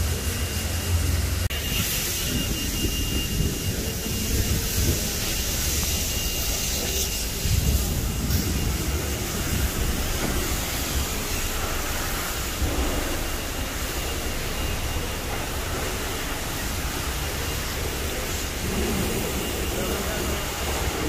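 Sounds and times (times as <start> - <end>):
car engines rumbling: 0.0 - 21.0
traffic hiss: 0.0 - 21.0.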